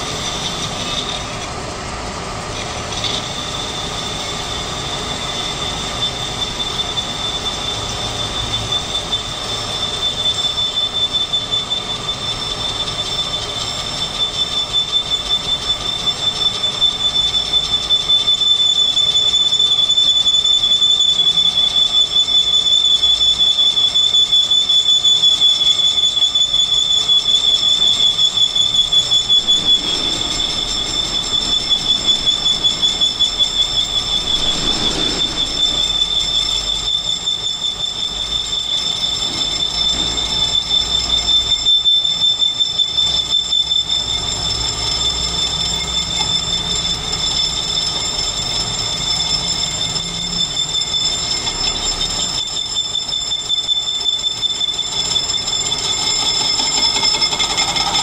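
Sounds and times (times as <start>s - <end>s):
lathe cutting tool squealing: 0.0s - 58.0s
lathe spinning: 0.0s - 58.0s.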